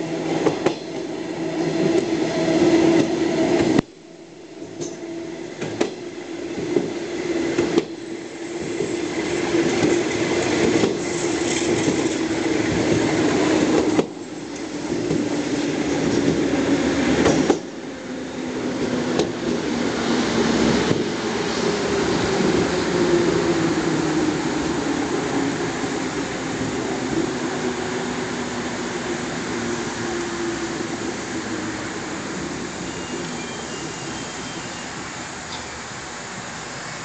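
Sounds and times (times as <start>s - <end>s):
train wheels on rails: 0.0s - 37.0s.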